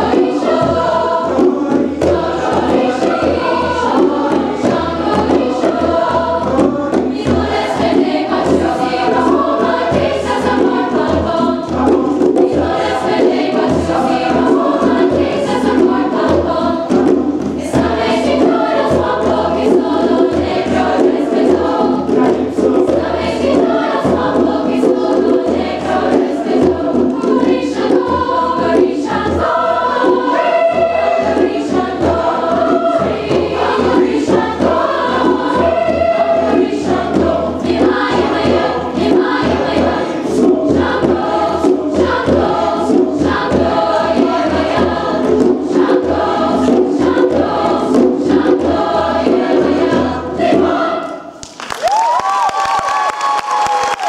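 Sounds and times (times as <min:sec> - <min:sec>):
hand drum strokes: 0:00.0 - 0:51.4
mixed choir singing: 0:00.0 - 0:51.4.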